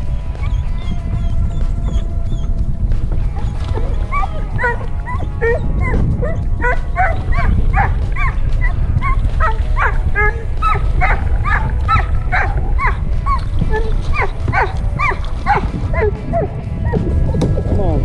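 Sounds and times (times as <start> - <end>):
low rumble: 0.0 - 18.0
dog yipping and whining: 0.4 - 2.5, 3.4 - 17.0.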